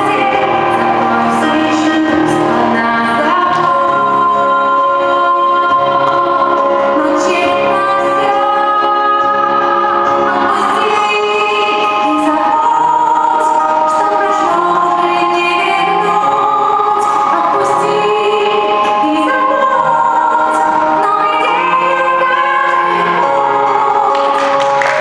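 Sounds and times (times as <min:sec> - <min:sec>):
musical accompaniment: 0:00.0 - 0:25.0
people singing a song: 0:00.0 - 0:25.0.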